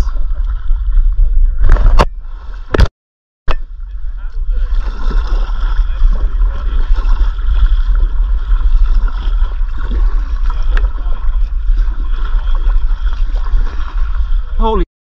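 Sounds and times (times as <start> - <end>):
water lapping and trickling: 0.0 - 2.8, 3.5 - 14.8
wind rumbling on microphone: 0.0 - 2.9, 3.5 - 14.8.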